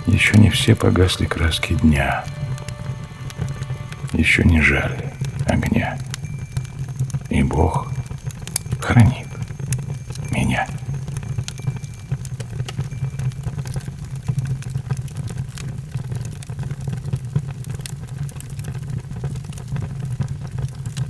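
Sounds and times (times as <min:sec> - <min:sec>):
bonfire flames rumbling: 0:00.0 - 0:21.0
fire crackles and pops: 0:00.0 - 0:21.0.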